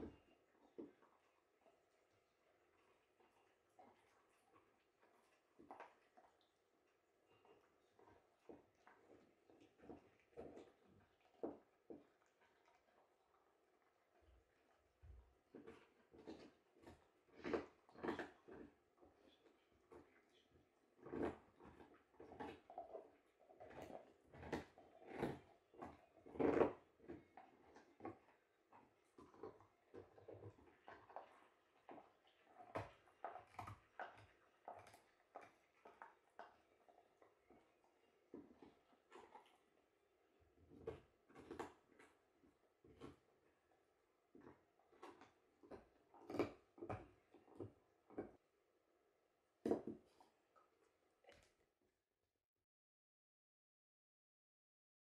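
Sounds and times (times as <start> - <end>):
dogs gnawing on bones: 0.0 - 43.7, 44.3 - 48.4.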